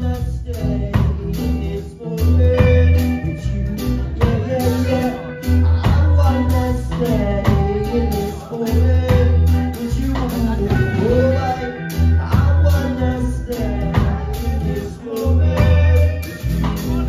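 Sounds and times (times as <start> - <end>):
drum kit: 0.0 - 17.0
electric guitar: 0.0 - 17.0
person singing: 0.0 - 17.0
pulsing bass: 0.0 - 17.0.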